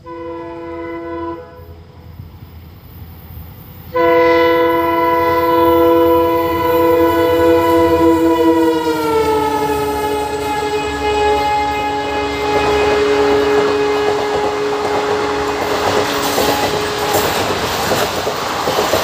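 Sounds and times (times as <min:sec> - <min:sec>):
locomotive air horn blasts: 0:00.0 - 0:01.8, 0:03.9 - 0:17.4
train rumble: 0:00.0 - 0:19.0.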